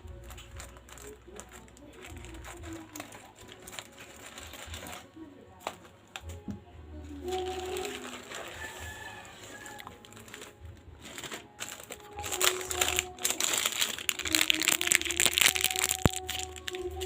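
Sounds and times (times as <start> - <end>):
packaging crinkling: 0.0 - 6.4, 7.2 - 17.0.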